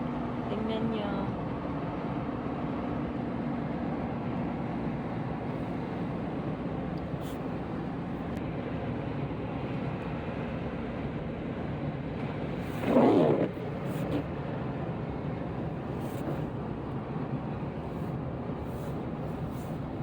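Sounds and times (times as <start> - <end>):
road and tyre noise in car: 0.0 - 20.0.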